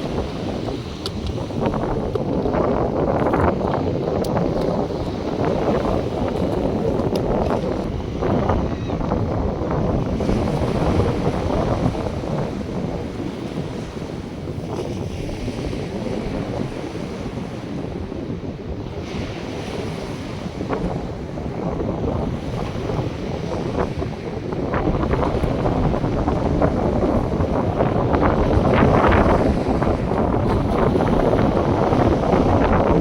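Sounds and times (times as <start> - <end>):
surf washing onto beach: 0.0 - 33.0
wind buffeting microphone: 0.0 - 33.0.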